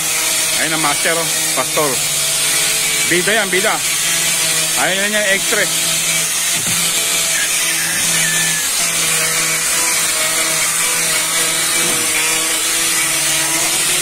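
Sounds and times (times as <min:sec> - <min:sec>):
electric power tool humming: 0:00.0 - 0:14.0.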